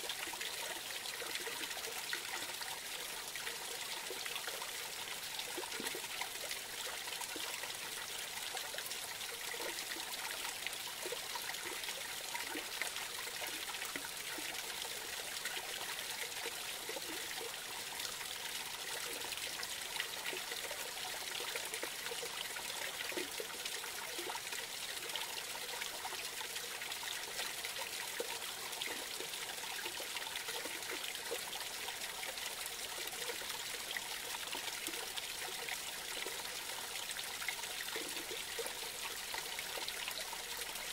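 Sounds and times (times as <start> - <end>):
creek trickling over cascade: 0.0 - 40.9.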